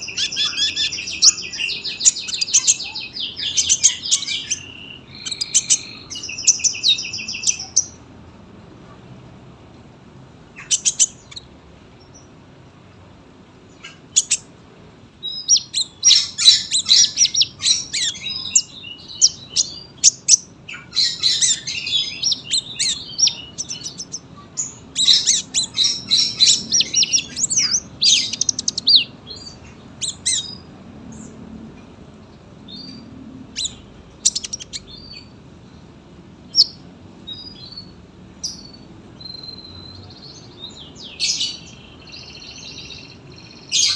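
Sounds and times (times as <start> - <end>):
bird singing high chirps: 0.0 - 8.0, 10.6 - 12.3, 13.7 - 14.5, 15.2 - 31.3, 32.7 - 35.8, 36.5 - 43.9.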